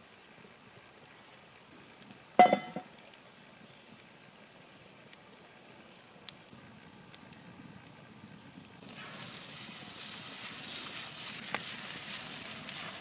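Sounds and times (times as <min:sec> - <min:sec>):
wood fire popping: 0:00.0 - 0:13.0.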